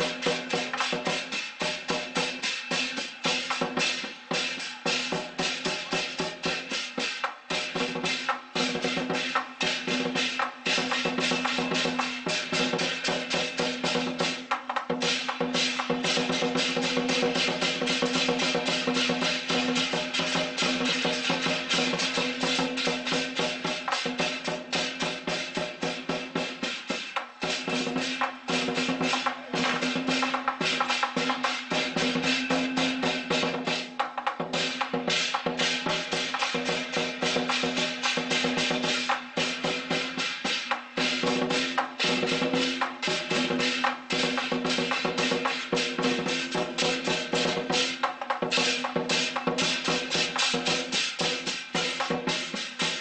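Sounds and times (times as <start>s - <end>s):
drums beating: 0.0s - 53.0s
gongs and cymbals struck: 0.0s - 53.0s.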